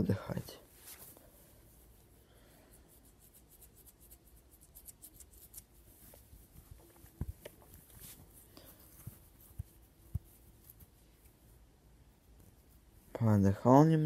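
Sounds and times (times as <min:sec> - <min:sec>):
faint rustling: 0:00.0 - 0:14.0.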